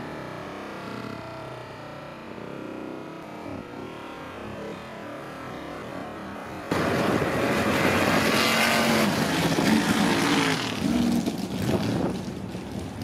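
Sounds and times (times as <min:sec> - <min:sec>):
truck engines at full throttle: 0:00.0 - 0:13.0.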